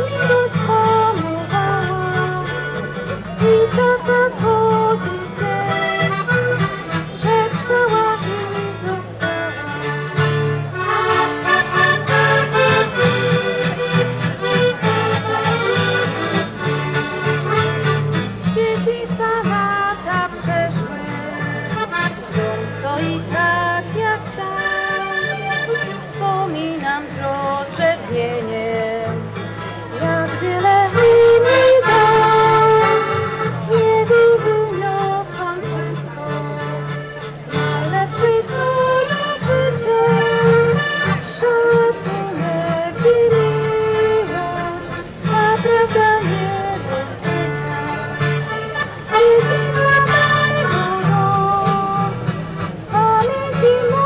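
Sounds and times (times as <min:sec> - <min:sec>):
instrumental music: 0:00.0 - 0:54.0.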